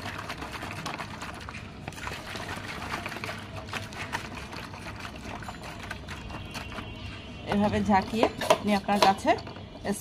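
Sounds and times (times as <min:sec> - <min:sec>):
water sloshing in plastic bottle: 0:00.0 - 0:09.7.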